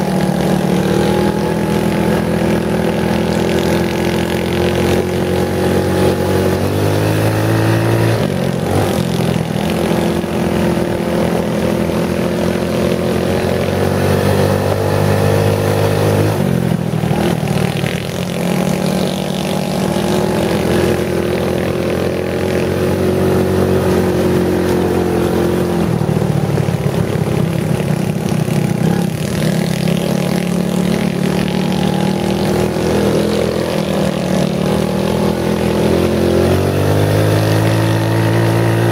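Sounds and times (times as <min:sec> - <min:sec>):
off-road buggy engine: 0:00.0 - 0:38.9.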